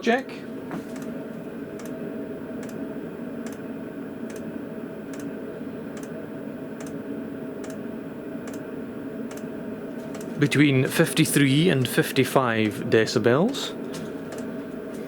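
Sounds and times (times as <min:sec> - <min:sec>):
heater fan and burner hum: 0:00.0 - 0:15.0.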